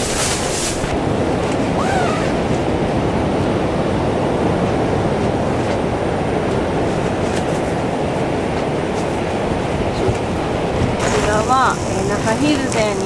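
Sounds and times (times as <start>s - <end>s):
storm wind buffeting a tent: 0.0s - 13.0s.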